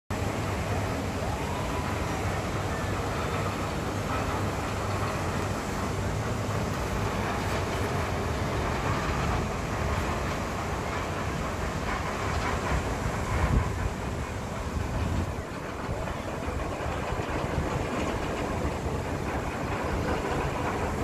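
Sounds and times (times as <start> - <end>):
rumbling hissing noise: 0.2 - 21.0.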